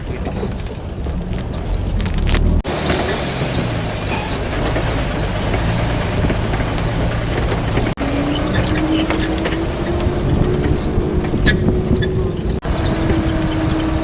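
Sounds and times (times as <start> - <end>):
vehicle engine hum: 0.0 - 14.0.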